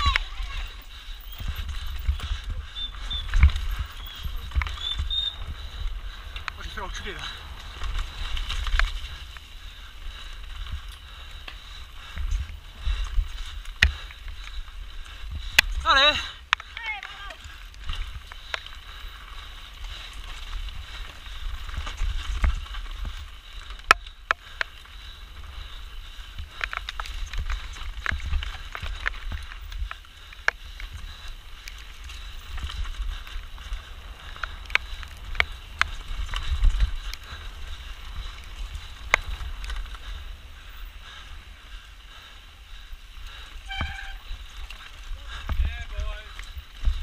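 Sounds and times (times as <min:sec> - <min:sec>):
wind buffeting microphone: 0:00.0 - 0:16.6, 0:17.2 - 0:47.0
tyre noise and wind rush: 0:00.0 - 0:47.0.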